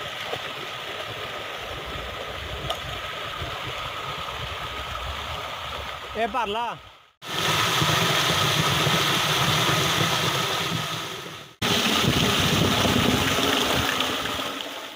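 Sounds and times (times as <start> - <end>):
water rushing into channel: 0.0 - 14.9.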